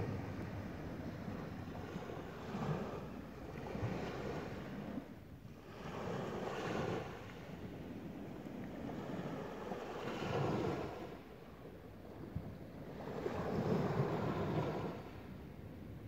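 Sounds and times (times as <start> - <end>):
sea waves washing on beach: 0.0 - 16.0
wind rumbling on microphone: 0.0 - 16.0.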